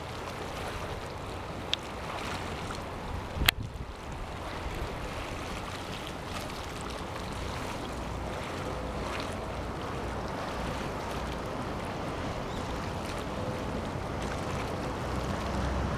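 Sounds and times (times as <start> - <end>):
low rumble of passing yacht: 0.0 - 15.9
water noise: 0.0 - 15.9
wind: 0.0 - 15.9.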